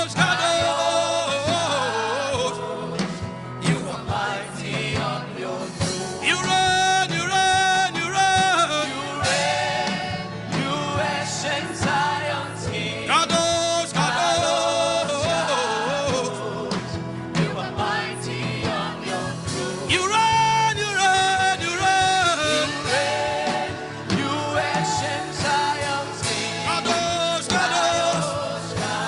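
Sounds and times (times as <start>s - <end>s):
gospel music backing: 0.0s - 29.0s.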